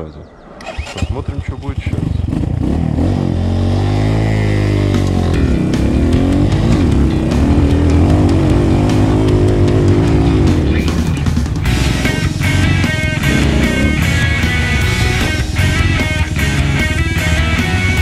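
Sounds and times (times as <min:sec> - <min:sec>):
motorcycle engine revving: 0:00.5 - 0:18.0.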